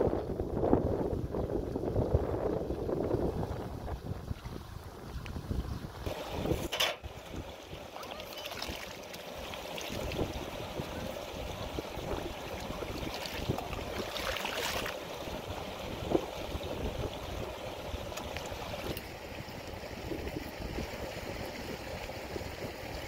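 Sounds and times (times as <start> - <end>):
wind buffeting microphone: 0.0 - 7.8, 9.9 - 23.0.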